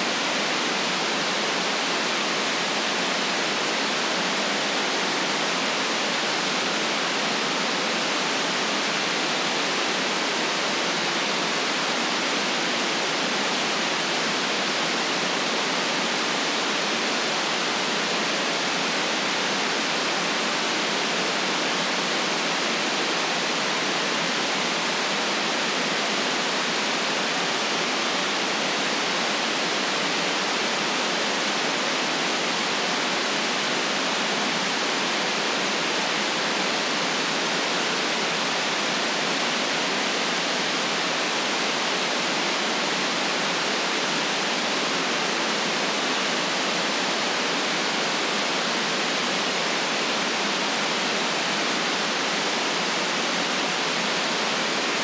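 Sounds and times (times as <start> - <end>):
steady white noise: 0.0 - 55.0.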